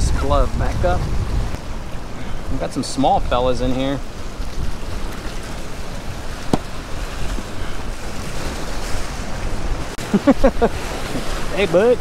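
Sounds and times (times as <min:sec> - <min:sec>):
surf washing against rocks: 0:00.0 - 0:12.0
wind buffeting microphone: 0:00.0 - 0:12.0.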